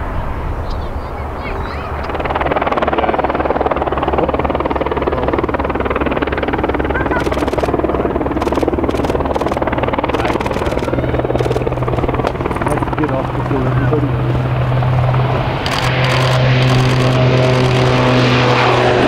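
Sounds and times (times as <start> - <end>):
turboprop airliner taking off: 0.0 - 19.0.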